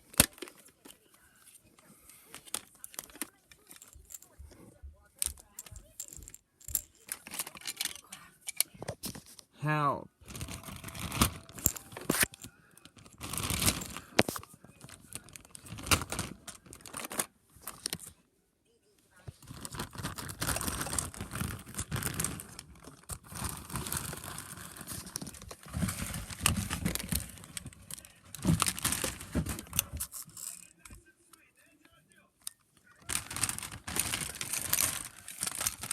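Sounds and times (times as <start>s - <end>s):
crinkling and rustling handling noises: 0.0s - 9.6s, 10.2s - 18.3s, 19.1s - 35.9s.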